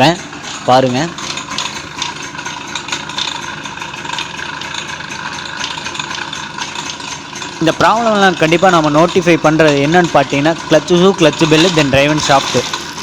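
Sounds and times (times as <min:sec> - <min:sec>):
clutch rattle: 0:00.0 - 0:13.0
moped engine idling: 0:00.0 - 0:13.0.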